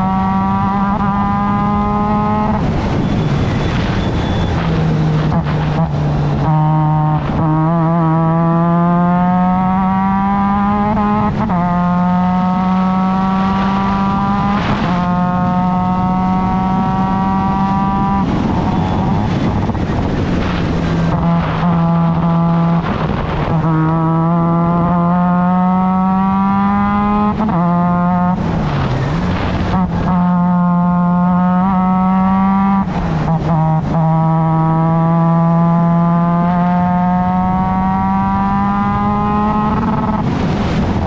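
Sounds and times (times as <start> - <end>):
race car engine accelerating: 0.0 - 41.0.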